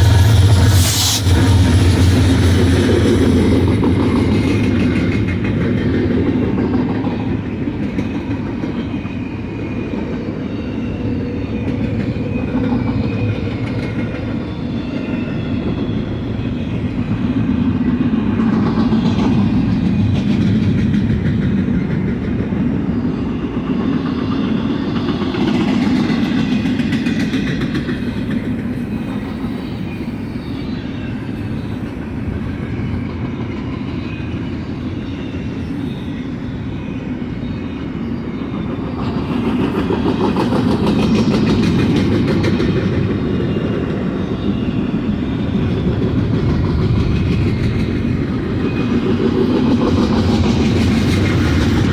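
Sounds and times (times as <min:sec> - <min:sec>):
steel wheels rumbling on rail: 0:00.0 - 0:51.9
train cars clacking: 0:00.0 - 0:51.9.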